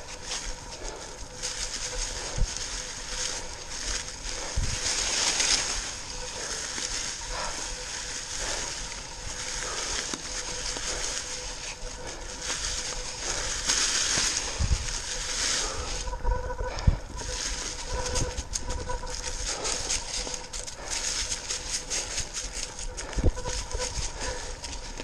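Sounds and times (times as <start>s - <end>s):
bike tyres crunching dry leaves: 0.0s - 25.0s.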